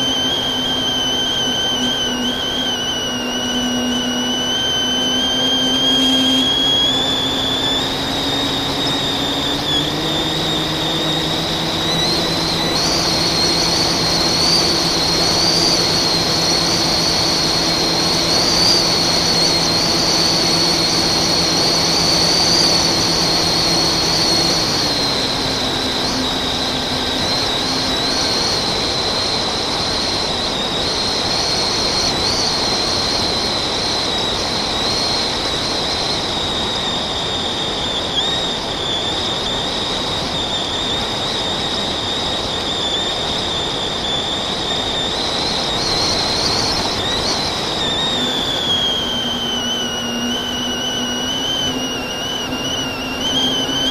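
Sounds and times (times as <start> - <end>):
drone motors whining: 0.0 - 53.9.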